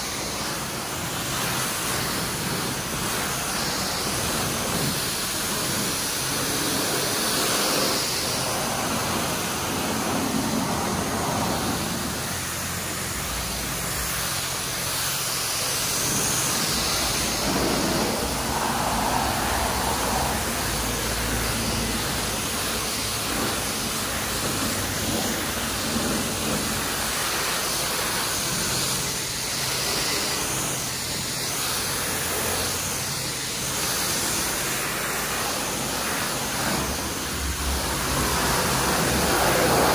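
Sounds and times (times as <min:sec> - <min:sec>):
pressure wand spraying water: 0:00.0 - 0:39.9.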